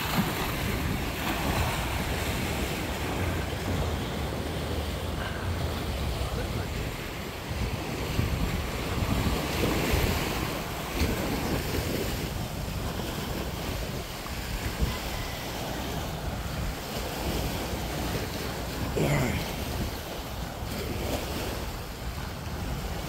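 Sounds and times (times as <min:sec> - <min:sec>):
small waves washing onto shore: 0:00.0 - 0:23.0
wind rumbling on microphone: 0:00.0 - 0:23.0.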